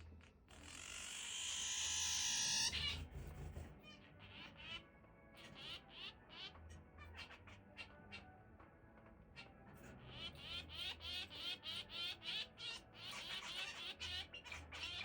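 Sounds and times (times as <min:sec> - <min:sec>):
finch singing buzzy notes: 0:00.0 - 0:08.4, 0:09.4 - 0:15.0.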